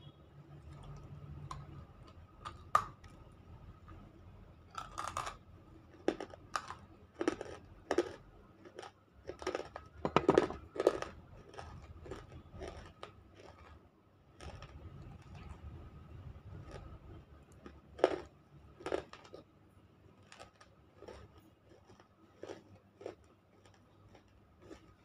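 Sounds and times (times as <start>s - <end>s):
chewing and crunching clay pieces: 0.6s - 15.8s, 16.6s - 25.0s.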